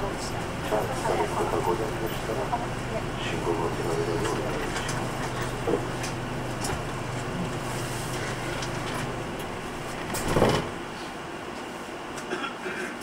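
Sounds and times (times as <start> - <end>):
bus diesel engine idling: 0.0 - 12.9.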